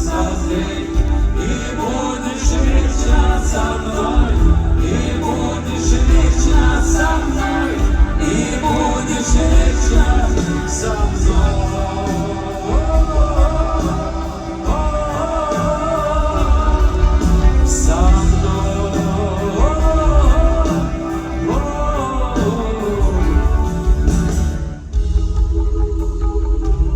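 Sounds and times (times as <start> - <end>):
rock band music: 0.0 - 26.9.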